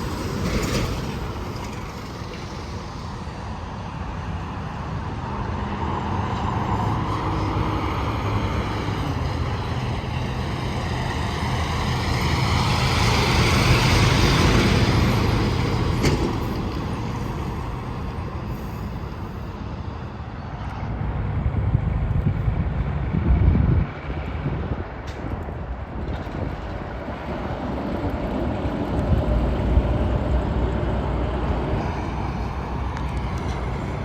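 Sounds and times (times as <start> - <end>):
heavy truck passing: 0.0 - 34.0
vehicle approaching: 0.0 - 34.0.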